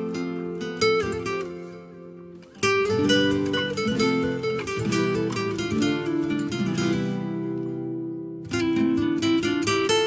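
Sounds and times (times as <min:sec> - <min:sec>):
plucked string instrumental music: 0:00.0 - 0:10.0.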